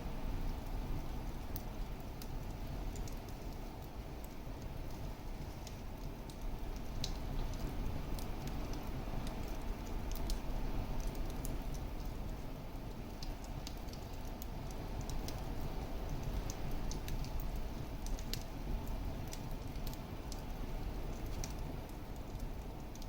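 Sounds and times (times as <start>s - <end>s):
low rumble of flames: 0.0s - 23.0s
fire crackling and popping: 0.2s - 23.0s.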